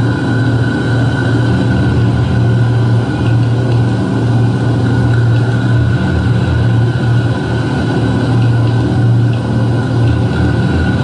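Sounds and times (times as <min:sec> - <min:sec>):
dark ambient noise drone: 0:00.0 - 0:11.0.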